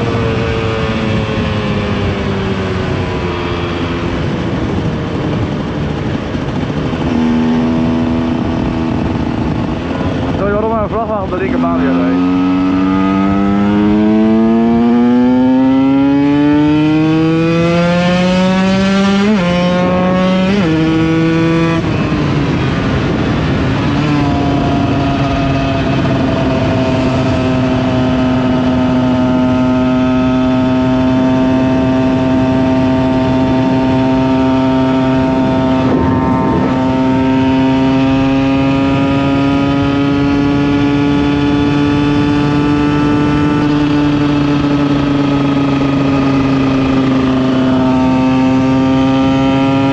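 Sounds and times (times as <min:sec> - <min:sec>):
two-stroke engine accelerating: 0:00.0 - 0:49.9.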